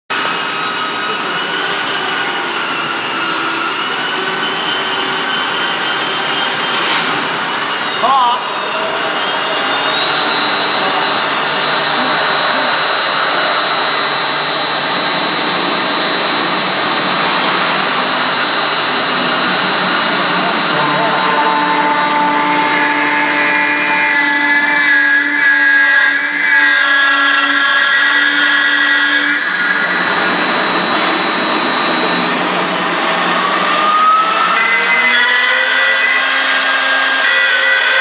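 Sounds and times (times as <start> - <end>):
cnc router spindle cutting: 0.1 - 38.0
high steady whine: 0.1 - 38.0.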